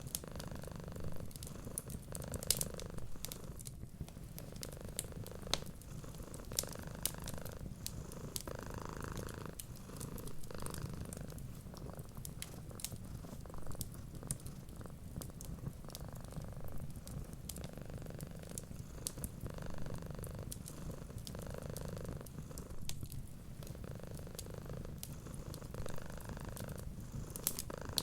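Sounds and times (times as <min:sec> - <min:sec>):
cat purring: 0:00.0 - 0:28.0
wood fire crackling: 0:00.0 - 0:28.0.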